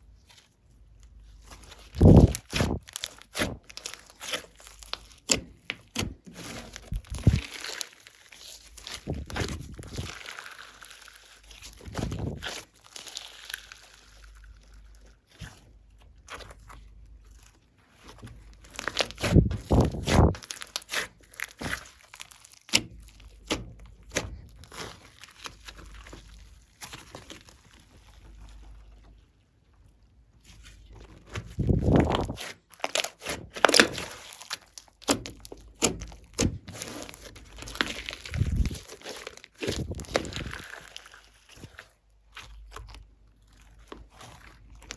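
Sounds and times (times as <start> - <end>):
hands squishing slime: 0.0 - 29.3, 30.4 - 44.9.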